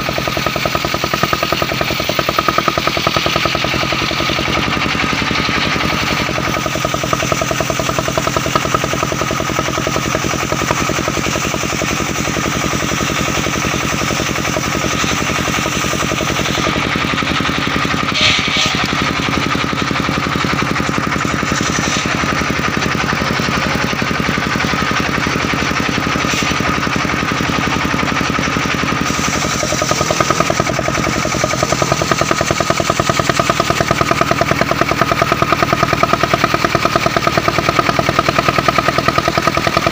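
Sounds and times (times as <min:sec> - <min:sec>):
constant whine: 0:00.0 - 0:39.9
sawmill engine running: 0:00.0 - 0:39.9.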